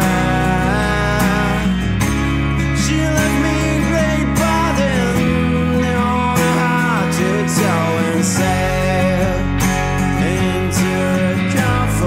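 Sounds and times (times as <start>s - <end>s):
bending lead guitar: 0.0s - 12.0s
rock ballad band: 0.0s - 12.0s.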